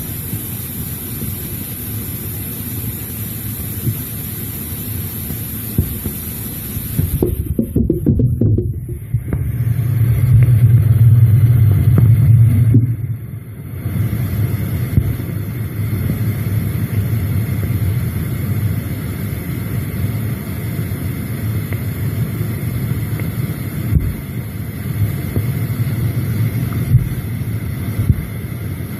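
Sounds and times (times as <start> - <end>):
low mechanical rumble and hum: 0.0 - 28.9.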